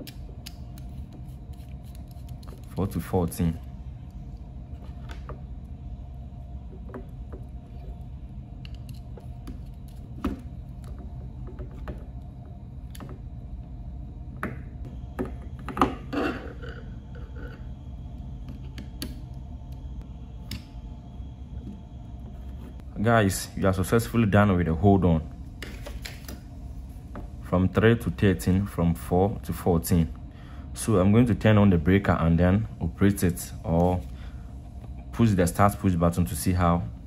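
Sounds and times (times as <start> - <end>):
low hum: 0.0 - 37.0.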